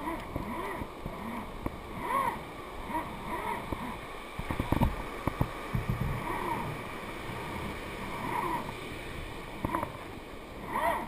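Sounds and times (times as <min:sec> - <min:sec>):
surf: 0:00.0 - 0:11.0
wind: 0:00.0 - 0:11.0.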